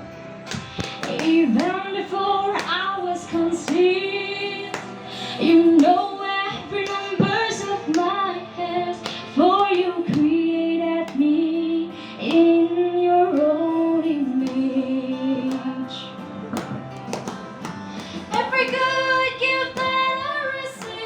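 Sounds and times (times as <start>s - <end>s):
woman singing worship song: 0.5s - 16.7s, 18.0s - 21.0s.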